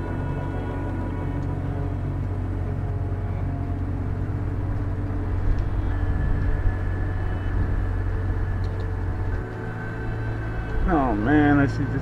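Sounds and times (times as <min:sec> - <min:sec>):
higher steady tone: 0:00.0 - 0:12.0
low droning hum: 0:00.0 - 0:12.0.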